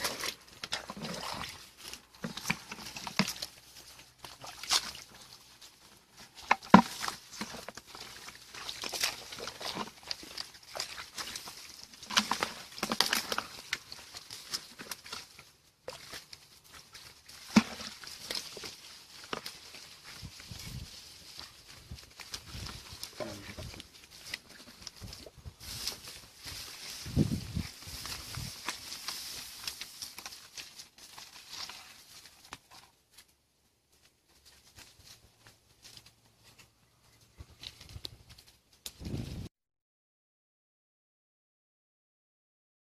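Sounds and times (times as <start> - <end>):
grass and stems rustling: 0.0 - 39.4.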